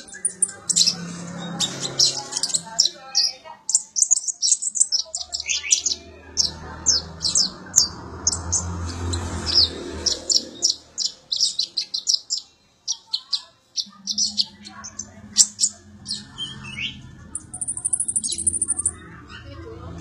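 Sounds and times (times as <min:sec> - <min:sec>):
sunbird singing high chirps: 0:00.0 - 0:19.4.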